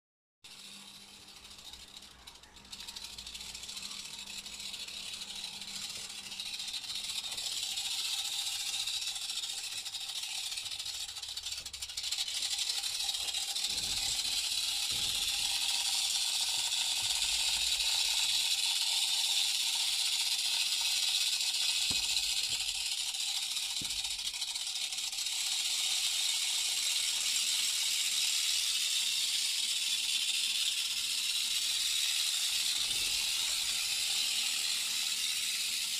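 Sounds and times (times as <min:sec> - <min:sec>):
rattlesnake tail rattling: 0:00.5 - 0:35.9.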